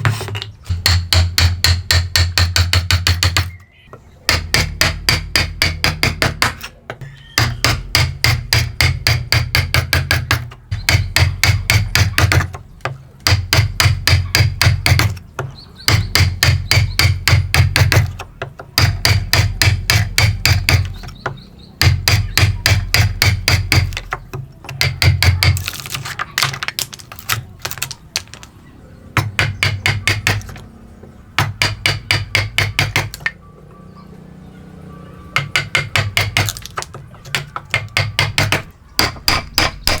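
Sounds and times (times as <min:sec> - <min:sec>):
hammer tapping chisel into wood: 0:00.1 - 0:03.6, 0:04.3 - 0:28.5, 0:29.2 - 0:30.6, 0:31.4 - 0:33.4, 0:35.4 - 0:40.0.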